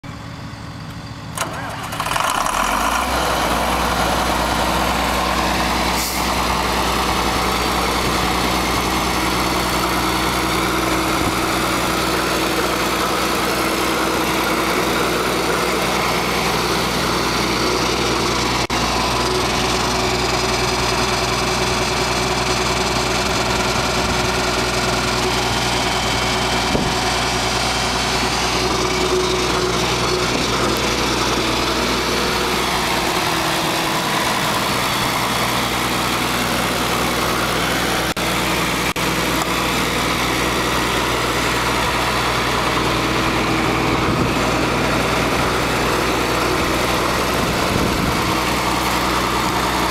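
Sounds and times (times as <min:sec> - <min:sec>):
diesel tractor engine starting and idling: 0:00.0 - 0:49.9.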